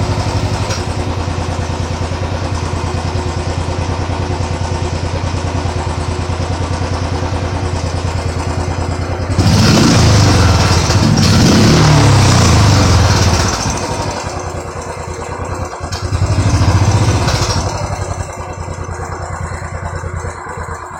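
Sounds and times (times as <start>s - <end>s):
engine idling and revving: 0.0s - 20.9s.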